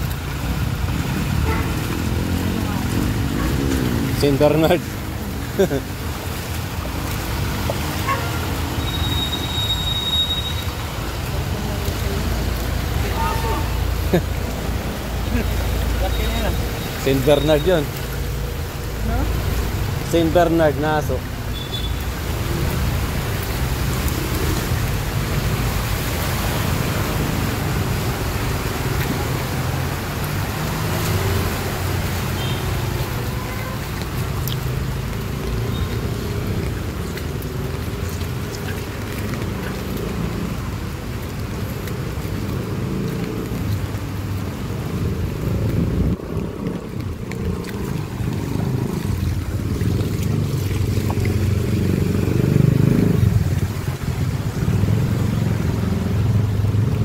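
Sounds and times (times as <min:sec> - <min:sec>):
water swishing: 0:00.0 - 0:57.0.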